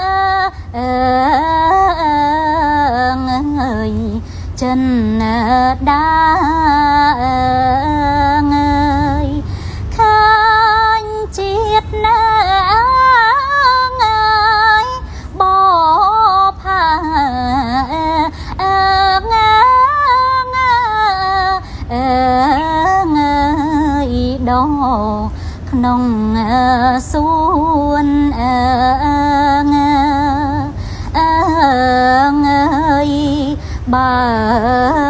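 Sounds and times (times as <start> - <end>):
woman singing slow melody: 0.0 - 35.0.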